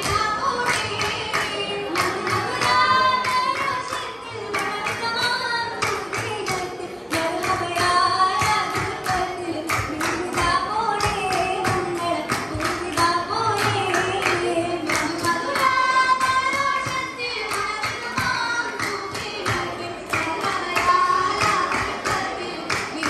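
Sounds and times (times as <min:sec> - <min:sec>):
girls singing together: 0:00.0 - 0:23.0
sharp hand claps: 0:00.0 - 0:23.0.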